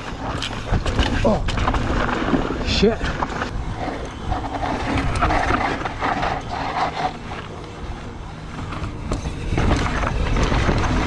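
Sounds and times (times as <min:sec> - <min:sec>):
bike rattles and knocks: 0:00.0 - 0:11.0
bike tyre noise: 0:00.0 - 0:11.0
wind rushing over microphone: 0:00.0 - 0:11.0.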